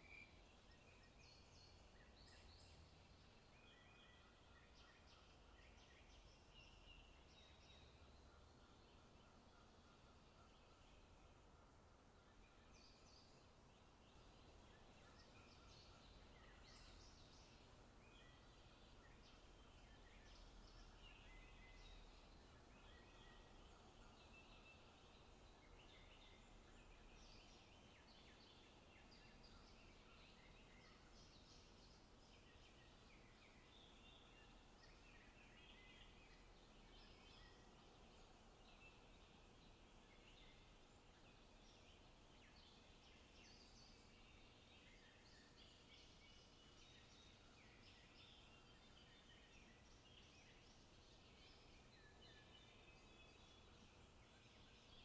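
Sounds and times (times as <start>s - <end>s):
small birds chirping and singing: 0.0s - 55.0s.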